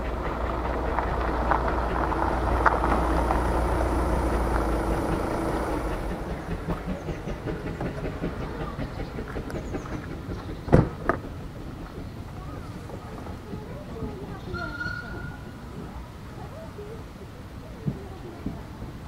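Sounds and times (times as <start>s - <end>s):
rhythmic locomotive beat: 0.0s - 16.0s
steam locomotive rumble: 0.0s - 19.0s.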